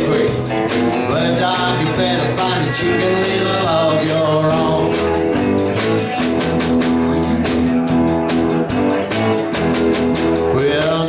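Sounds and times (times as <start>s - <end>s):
bass guitar: 0.0s - 11.0s
drum kit beat: 0.0s - 11.0s
electric guitar: 0.0s - 11.0s.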